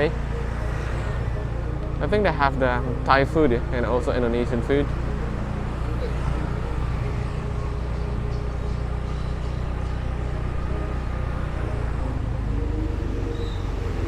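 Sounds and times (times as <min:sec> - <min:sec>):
motorbike engine and road noise: 0:00.0 - 0:14.0.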